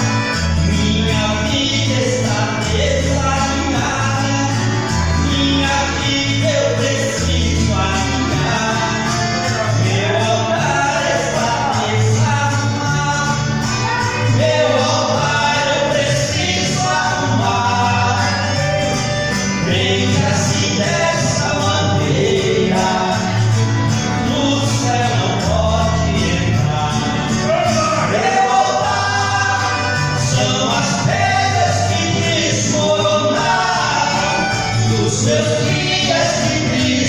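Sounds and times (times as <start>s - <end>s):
instrumental backing with bass: 0.0s - 37.0s
two men singing gospel: 0.0s - 37.0s.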